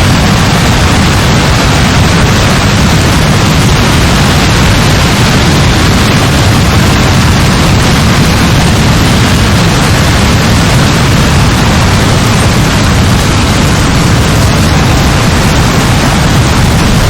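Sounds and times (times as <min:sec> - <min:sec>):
heavy rain pouring: 0:00.0 - 0:17.0
low rumble: 0:00.0 - 0:17.0.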